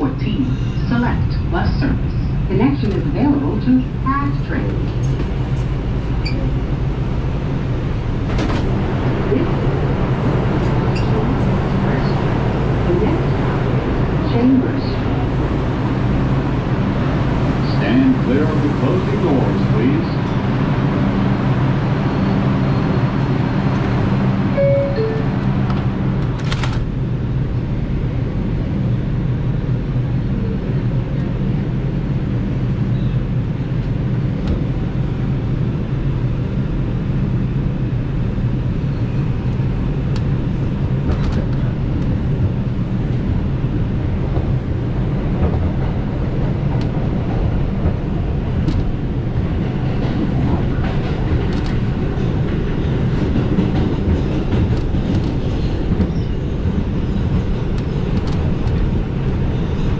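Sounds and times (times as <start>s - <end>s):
subway train rumbling: 0.0s - 59.9s.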